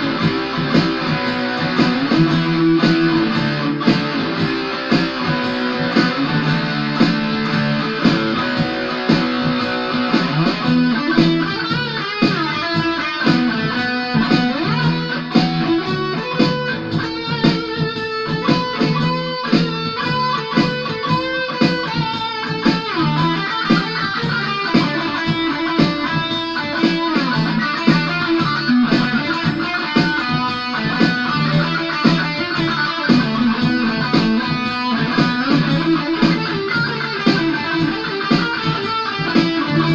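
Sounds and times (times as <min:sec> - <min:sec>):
electric guitar lead runs: 0:00.0 - 0:39.9
low accompaniment: 0:00.0 - 0:39.9.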